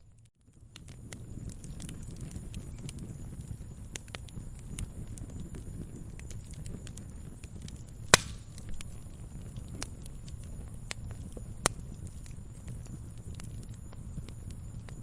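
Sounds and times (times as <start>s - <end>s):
fire crackling in fireplace: 0.0s - 15.0s
loud sharp pops of fire: 0.7s - 15.0s.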